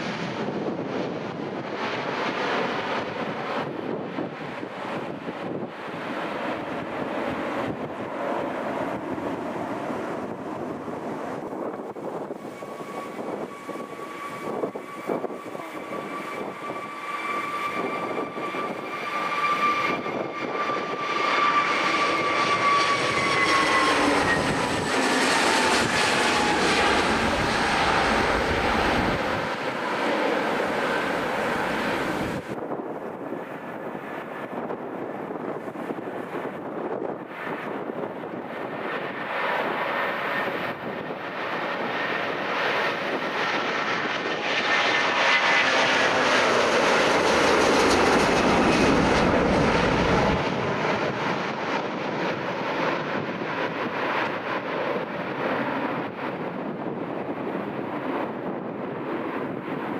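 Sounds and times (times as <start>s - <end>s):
airliner passing by: 0.0s - 59.9s.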